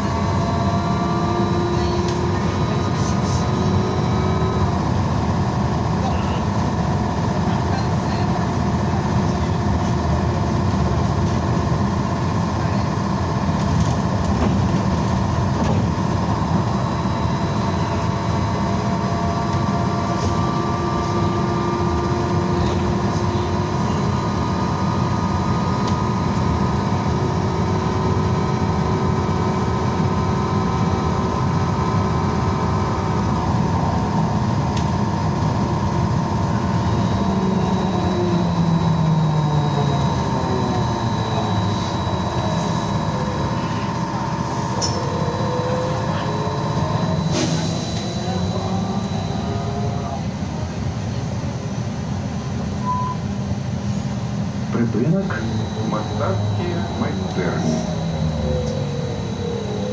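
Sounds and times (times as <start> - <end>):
electric drive whine: 0.0 - 5.9, 10.2 - 51.2, 51.9 - 59.9.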